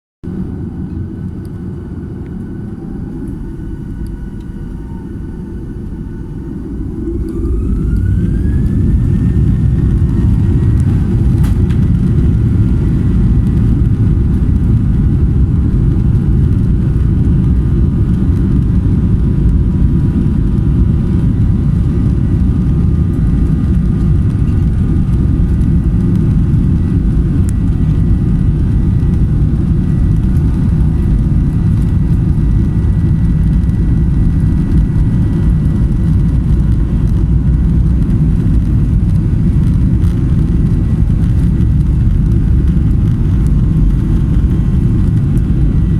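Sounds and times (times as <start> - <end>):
jet engines roaring: 0.2 - 45.9.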